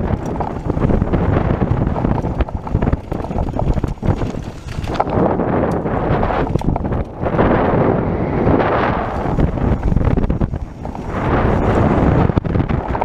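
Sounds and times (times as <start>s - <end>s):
bike rattling and knocking: 0.0s - 7.9s, 9.0s - 13.0s
tyres rolling over dirt and rock: 0.0s - 13.0s
wind buffeting microphone: 0.0s - 13.0s.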